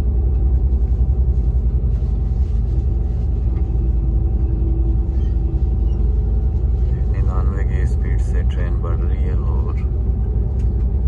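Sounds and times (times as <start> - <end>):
railcar cabin rumble: 0.0 - 11.0.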